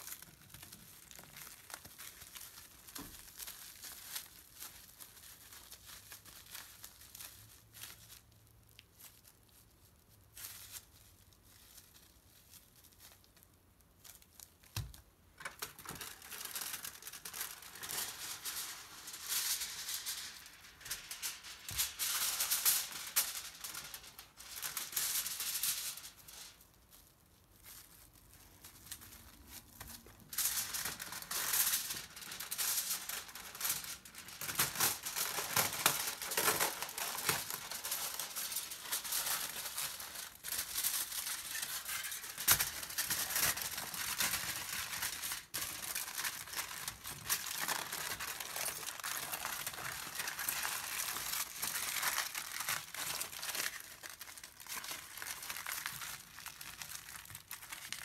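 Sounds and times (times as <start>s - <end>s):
aluminium foil crinkling: 0.0s - 58.0s.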